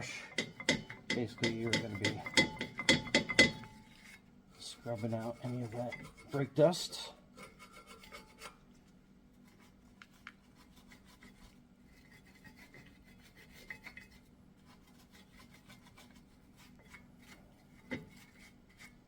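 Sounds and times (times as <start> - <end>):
wire brush scrubbing metal: 0.0 - 19.0.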